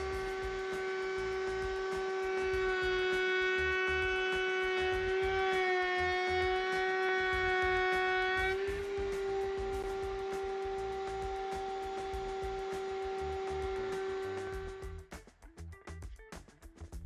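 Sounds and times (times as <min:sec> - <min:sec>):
router whining while cutting wood: 0:00.0 - 0:15.0.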